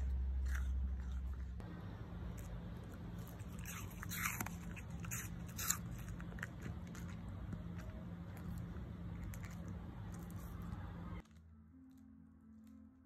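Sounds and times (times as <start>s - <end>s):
dog crunching apple: 0.0s - 1.6s, 2.2s - 12.0s
low hum: 0.0s - 13.0s.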